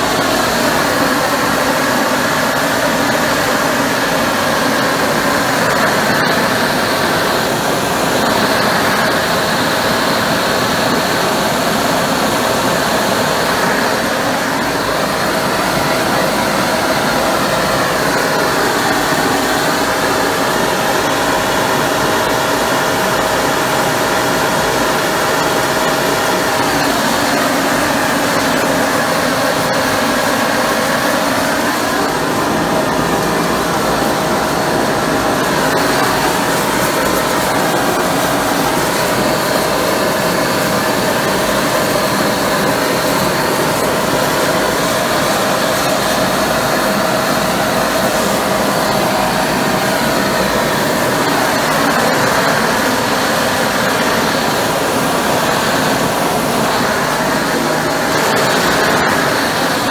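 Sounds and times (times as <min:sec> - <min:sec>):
faint steady whine: 0:00.0 - 0:59.9
steam jet rushing: 0:00.0 - 0:59.9.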